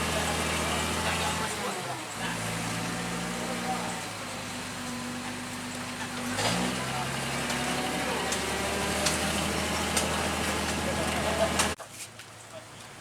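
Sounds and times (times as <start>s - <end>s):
truck engine running: 0.0s - 11.8s.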